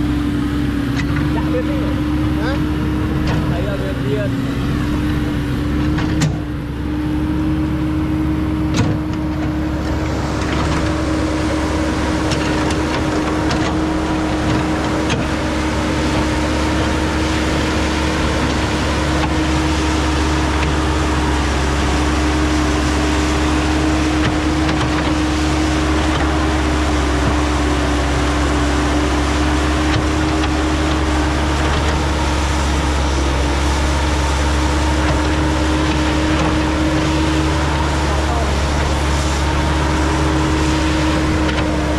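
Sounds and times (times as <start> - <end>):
diesel engine droning hum: 0.0 - 41.9.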